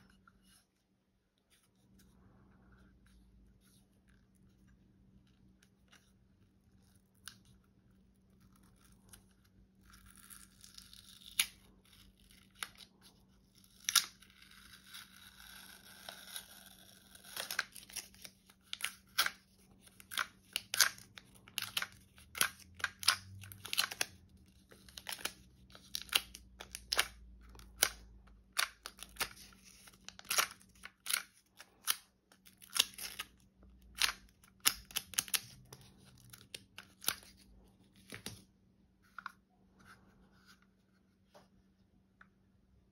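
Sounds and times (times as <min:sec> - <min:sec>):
paper card crackling and rustling: 0:00.0 - 0:41.7.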